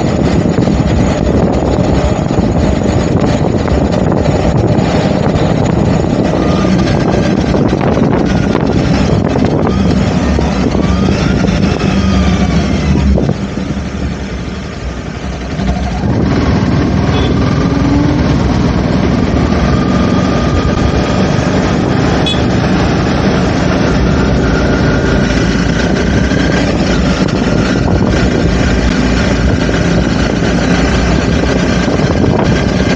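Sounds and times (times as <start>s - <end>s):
motorcycle engine running: 0.0s - 32.9s
wind noise on microphone: 0.0s - 32.9s.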